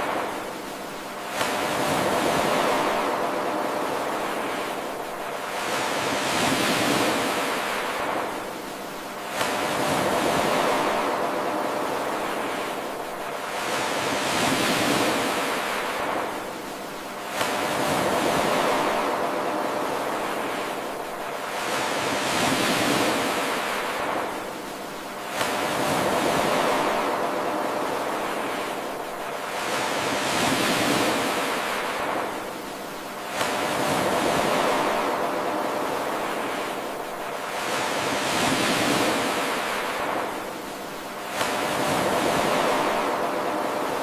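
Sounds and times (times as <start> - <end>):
ocean waves washing in: 0.0 - 44.0.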